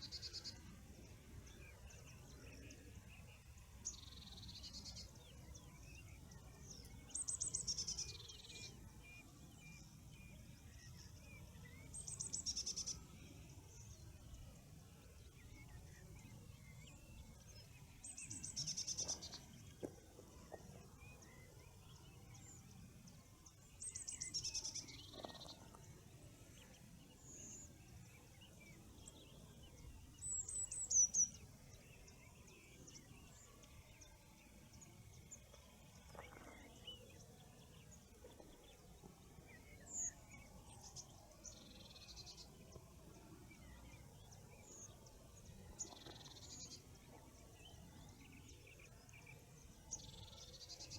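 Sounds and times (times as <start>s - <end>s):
faint outdoor hiss: 0.0s - 50.9s
songbirds singing: 0.0s - 50.9s.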